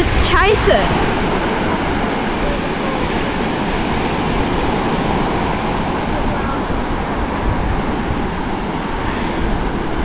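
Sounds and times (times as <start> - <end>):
surf breaking on beach: 0.0 - 10.0
wind rumbling on microphone: 0.0 - 10.0.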